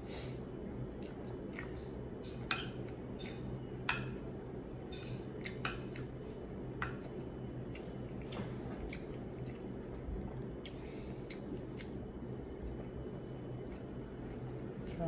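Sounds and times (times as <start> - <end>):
steady low hum: 0.0 - 15.0
soft chewing: 0.2 - 15.0.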